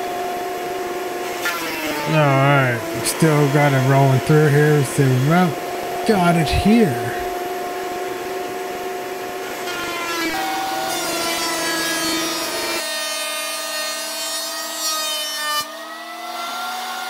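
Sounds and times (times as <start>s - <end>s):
thickness planer whining: 0.0s - 17.0s.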